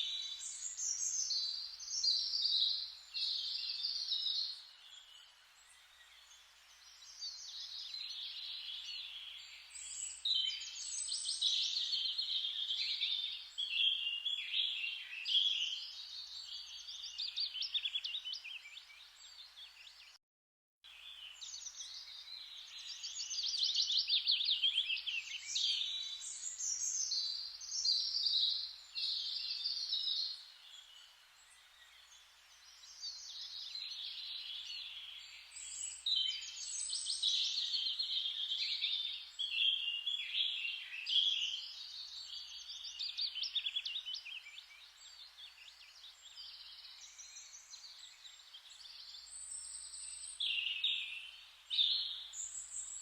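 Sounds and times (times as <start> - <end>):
faint forest hiss: 0.0 - 20.2, 20.9 - 53.0
songbirds chirping and trilling: 0.0 - 20.2, 20.9 - 53.0.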